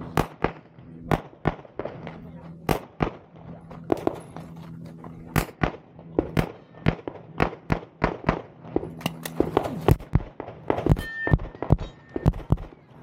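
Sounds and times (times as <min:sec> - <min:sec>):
rapid pistol shots: 0:00.0 - 0:04.2, 0:05.2 - 0:12.9.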